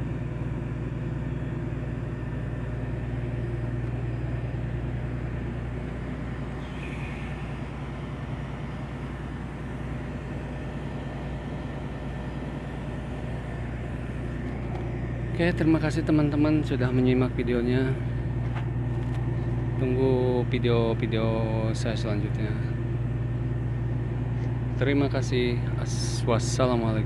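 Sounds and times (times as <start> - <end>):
ship machinery humming: 0.0 - 27.0.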